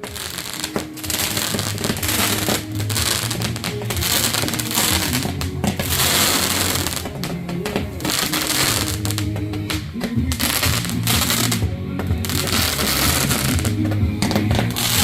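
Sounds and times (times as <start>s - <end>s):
firework crackling and fizzing: 0.0s - 15.0s
music with held notes: 0.0s - 15.0s.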